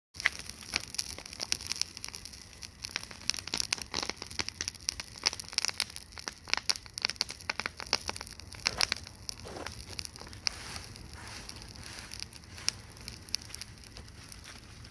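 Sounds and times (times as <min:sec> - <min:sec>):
burning wood crackling and popping: 0:00.2 - 0:14.9
low steady fire hiss: 0:00.2 - 0:14.9.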